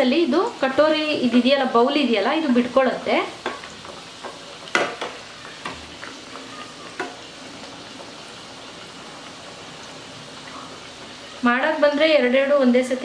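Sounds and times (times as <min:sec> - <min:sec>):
dough frying in oil: 0:00.0 - 0:13.0.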